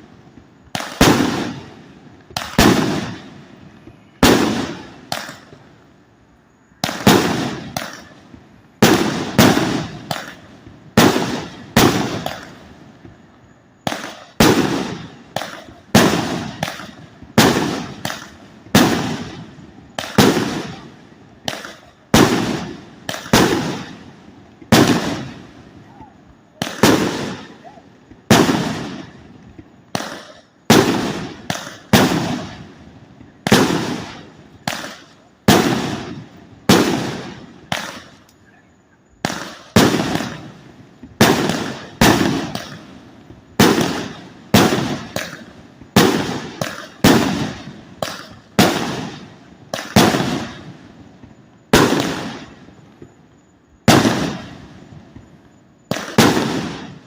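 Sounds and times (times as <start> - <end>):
firework bangs with echo: 0.0 - 5.7, 6.7 - 38.3, 39.2 - 53.2, 53.8 - 57.0.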